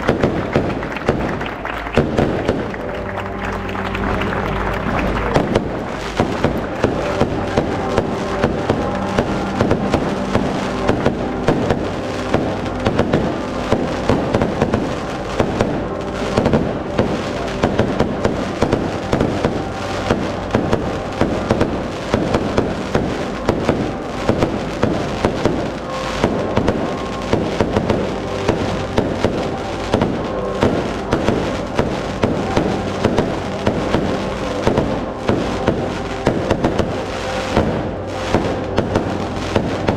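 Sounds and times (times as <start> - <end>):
fireworks crackling: 0.0 - 39.9
steady tones: 0.0 - 39.9.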